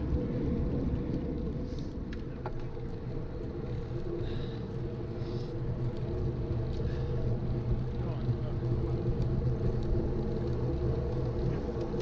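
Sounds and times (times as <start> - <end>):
bike tyres on tarmac: 0.0 - 12.0.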